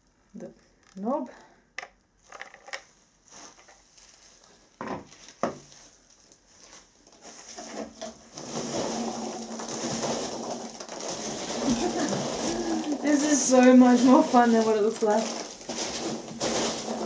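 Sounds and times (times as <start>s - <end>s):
packing peanuts rustling: 2.2s - 17.0s.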